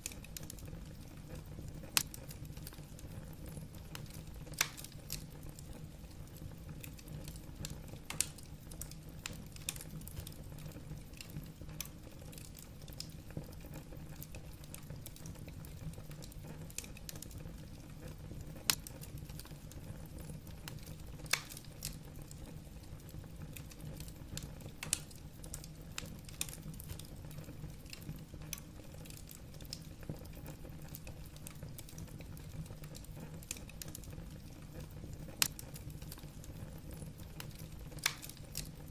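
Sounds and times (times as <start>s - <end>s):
logs crackling and popping: 0.0s - 38.9s
low rumble of flames: 0.0s - 38.9s
wood snapping in fire: 0.0s - 38.9s.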